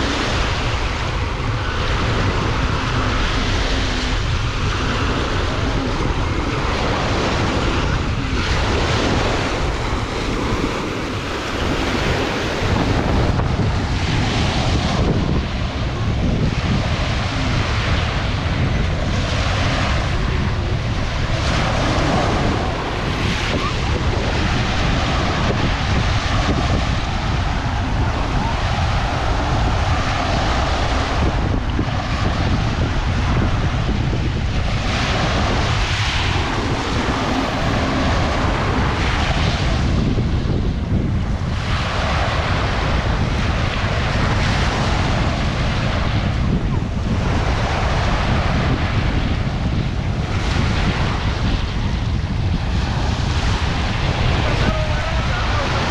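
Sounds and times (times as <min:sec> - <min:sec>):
sea waves breaking: 0:00.0 - 0:55.9
wind buffeting microphone: 0:00.0 - 0:55.9.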